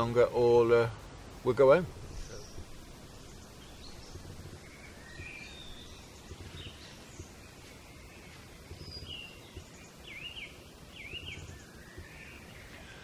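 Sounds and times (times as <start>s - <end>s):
low outdoor rumble: 0.0s - 13.0s
wild birds singing: 0.0s - 13.0s.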